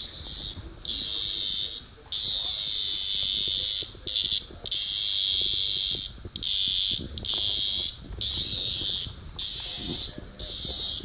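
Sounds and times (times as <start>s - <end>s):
cicada distress buzz: 0.0s - 11.0s.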